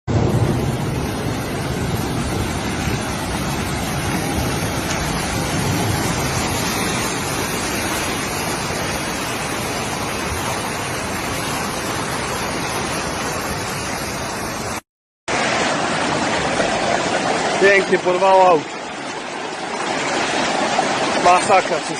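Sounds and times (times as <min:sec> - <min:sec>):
storm water rushing: 0:00.1 - 0:21.9.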